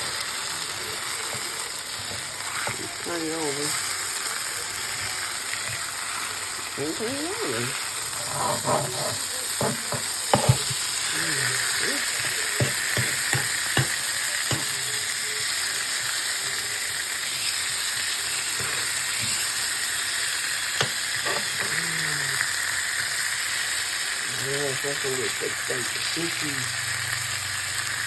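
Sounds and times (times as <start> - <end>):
meat sizzling on a grill: 0.0 - 28.0.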